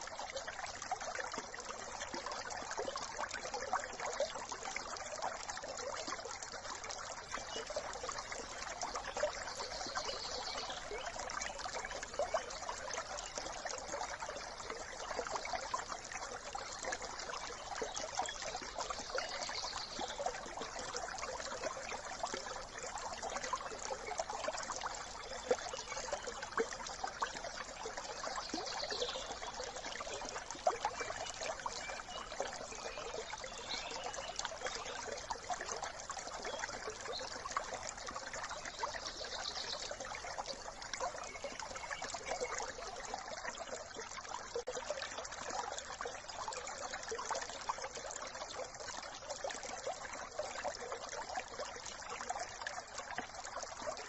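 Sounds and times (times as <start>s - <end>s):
brook trickling: 0.0s - 54.0s.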